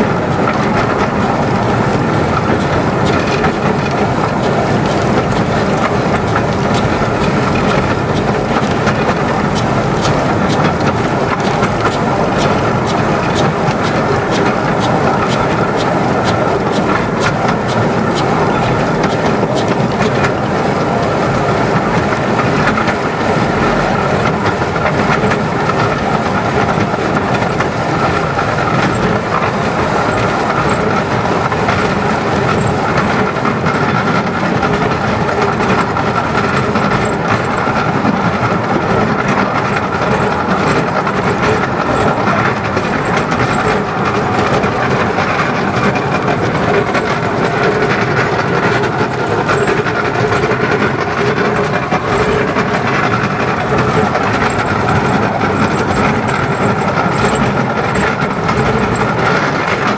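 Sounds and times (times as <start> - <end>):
steam train running: 0.0 - 59.9
wheels clicking over rail joints: 0.0 - 59.9.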